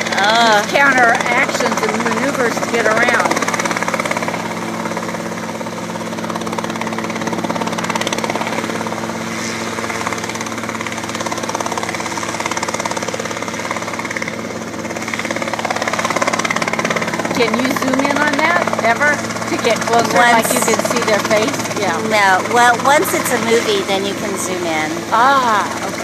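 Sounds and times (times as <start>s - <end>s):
helicopter engine hum: 0.0s - 26.0s
rotor blades beating: 0.0s - 26.0s.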